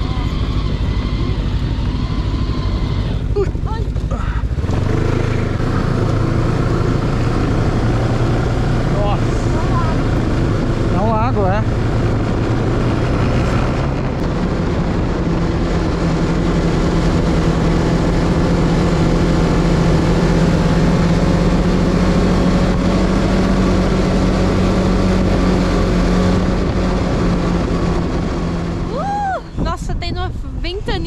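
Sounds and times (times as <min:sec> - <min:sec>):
snowmobile engine drone: 0:00.0 - 0:31.0.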